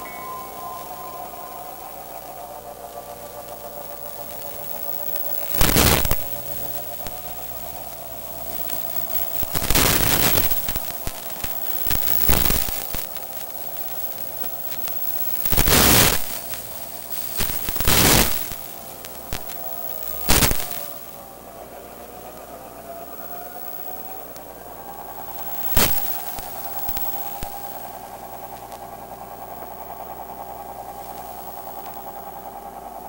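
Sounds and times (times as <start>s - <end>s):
loud bursts of static: 0.0s - 21.2s, 23.1s - 24.4s, 25.0s - 28.5s, 29.5s - 32.4s
steady electrical hum: 0.0s - 33.0s.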